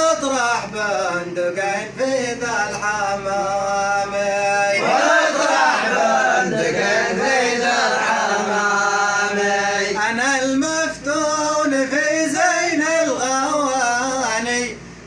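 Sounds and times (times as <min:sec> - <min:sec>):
man chanting unaccompanied: 0:00.0 - 0:14.9.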